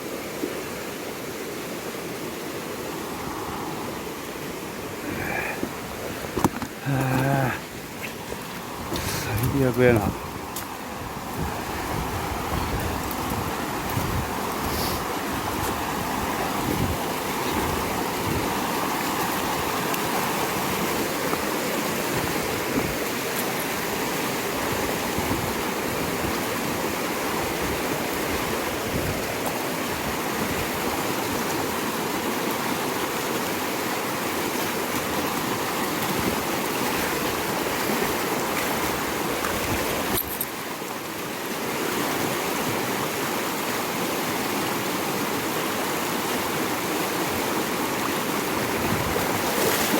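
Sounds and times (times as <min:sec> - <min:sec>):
river rushing: 0:00.0 - 0:49.9.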